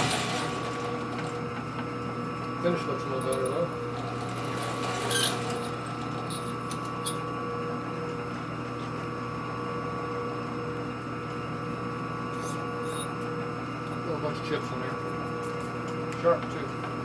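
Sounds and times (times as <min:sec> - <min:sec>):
machine hum: 0:00.0 - 0:15.2.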